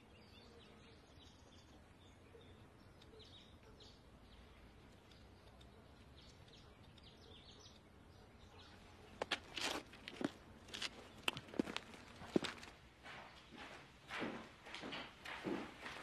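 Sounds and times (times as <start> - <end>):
soft bird chirps: 0.0 - 13.9.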